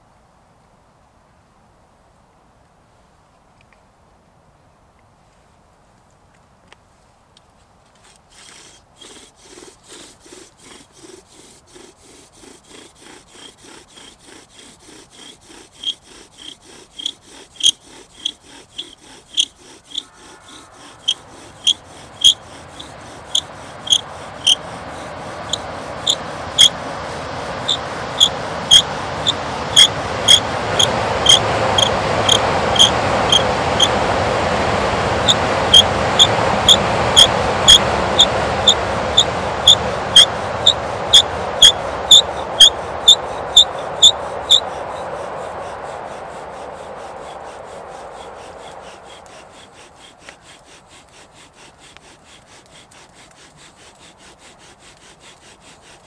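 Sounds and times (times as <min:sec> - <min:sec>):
rough noise: 0:07.9 - 0:56.0
rasping strokes on wood: 0:08.0 - 0:56.0.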